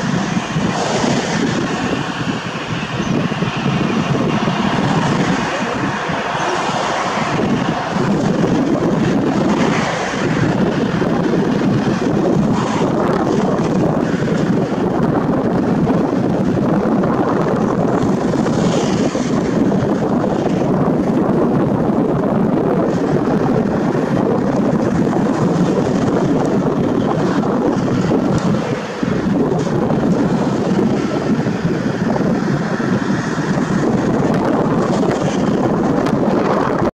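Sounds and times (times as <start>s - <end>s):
jet engines rushing: 0.0s - 36.9s.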